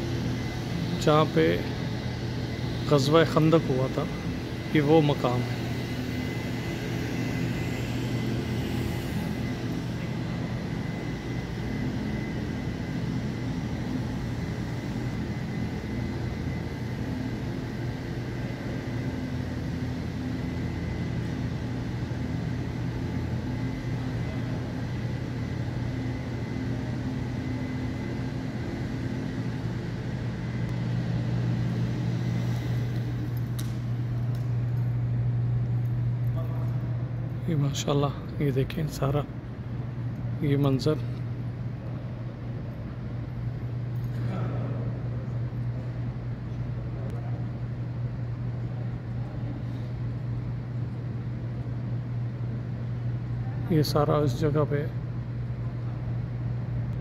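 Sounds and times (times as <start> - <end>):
air conditioning hum: 0.0 - 57.0.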